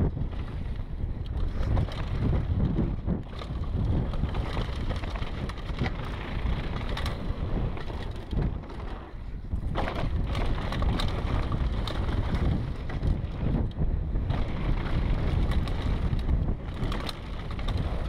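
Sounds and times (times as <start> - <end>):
bike rattling over bumps: 0.0 - 18.0
mountain bike rumbling downhill: 0.0 - 18.0
wind buffeting microphone: 0.0 - 18.0
wheels clattering over wooden bridge: 1.4 - 13.6, 14.2 - 18.0.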